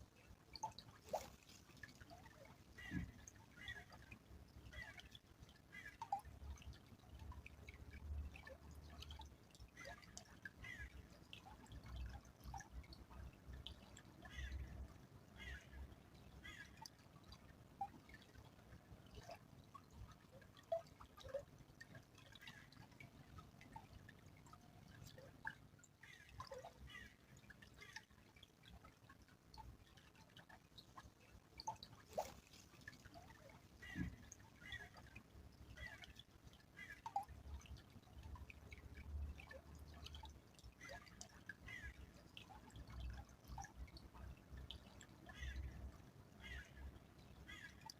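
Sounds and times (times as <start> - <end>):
stream trickling: 0.0 - 47.9
water drips and plinks: 0.0 - 47.9.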